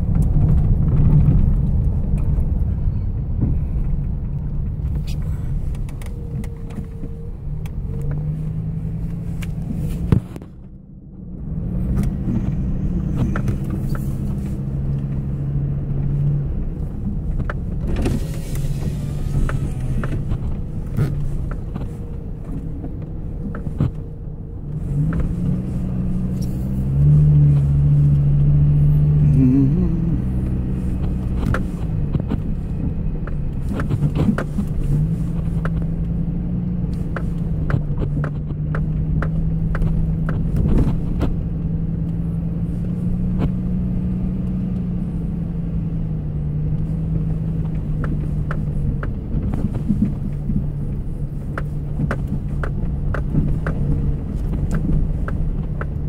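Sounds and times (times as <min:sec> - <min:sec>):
tyres on dirt road: 0:00.0 - 0:56.0
vehicle engine hum: 0:00.0 - 0:56.0.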